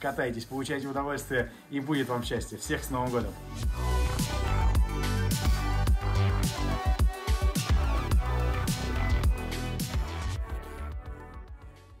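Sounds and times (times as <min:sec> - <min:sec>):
music with heavy steady beat: 0:01.9 - 0:12.0.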